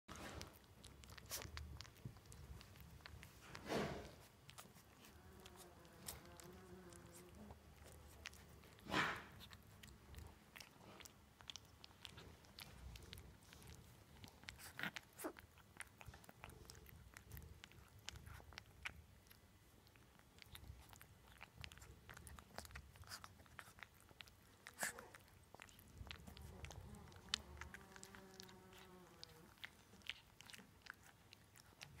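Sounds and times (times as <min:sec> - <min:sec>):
puppy licking a spoon: 0:00.1 - 0:32.0.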